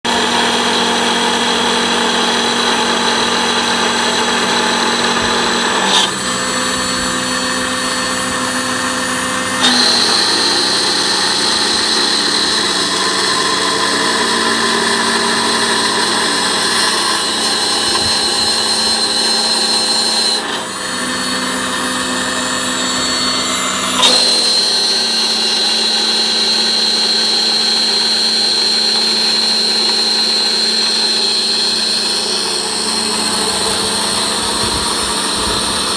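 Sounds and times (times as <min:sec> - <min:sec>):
cnc machine high-pitched whine: 0:00.1 - 0:35.9.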